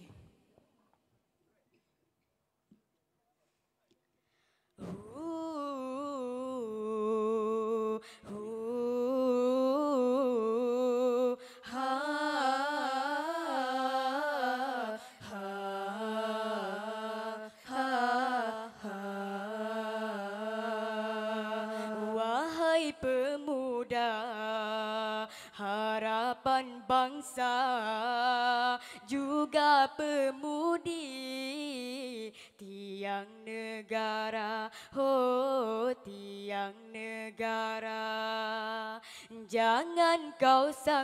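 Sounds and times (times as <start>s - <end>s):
women singing a cappella: 4.8s - 41.0s.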